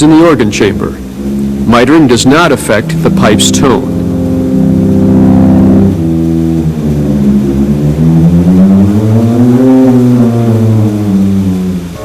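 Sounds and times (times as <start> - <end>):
pipe organ playing low chords: 0.0 - 12.0.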